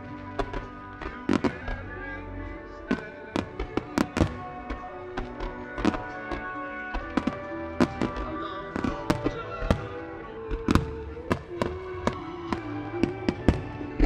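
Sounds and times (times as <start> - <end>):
firework shells bursting: 0.0 - 1.9, 2.9 - 14.0
music playing: 0.0 - 14.0.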